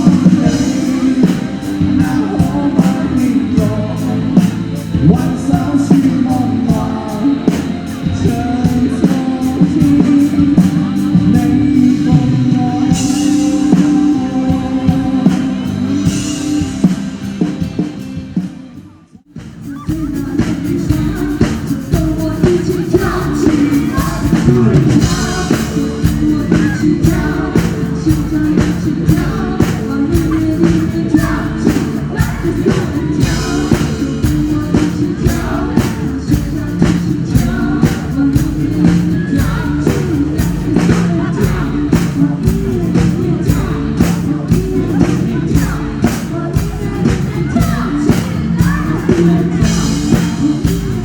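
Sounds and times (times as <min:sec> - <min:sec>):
lead vocal singing: 0:00.0 - 0:51.0
live rock band: 0:00.0 - 0:51.0.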